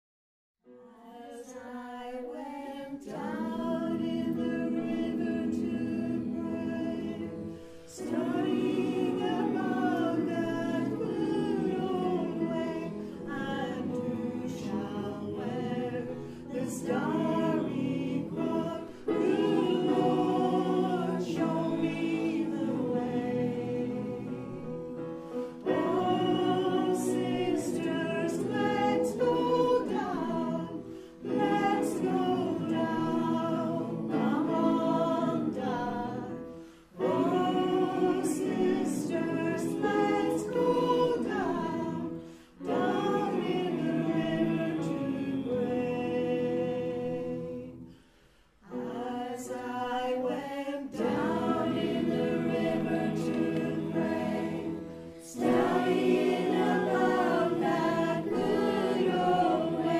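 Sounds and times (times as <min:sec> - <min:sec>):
choir singing slow song: 0:00.7 - 0:59.9.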